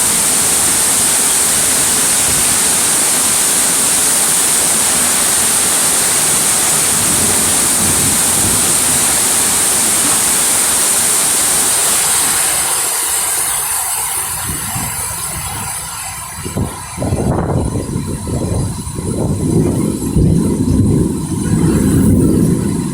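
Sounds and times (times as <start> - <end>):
heavy rain pouring: 0.0 - 22.9
strong wind: 0.0 - 22.9.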